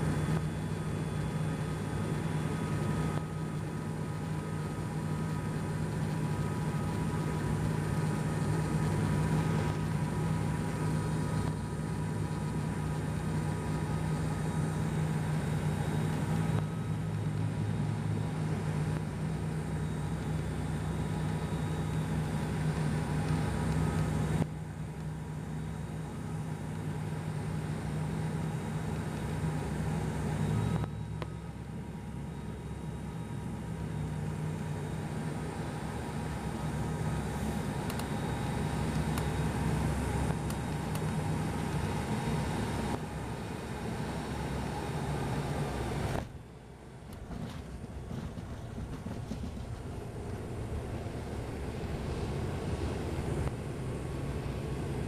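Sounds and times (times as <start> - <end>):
faint whine: 0.0 - 55.0
propeller drone in aircraft cabin: 0.0 - 55.0.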